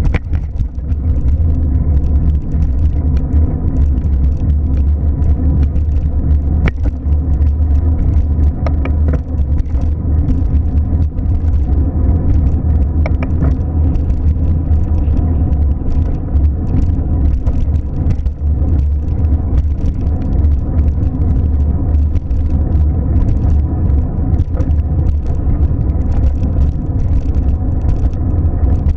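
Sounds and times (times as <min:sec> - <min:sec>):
car engine running: 0:00.0 - 0:28.9
faint ticks: 0:00.0 - 0:28.9.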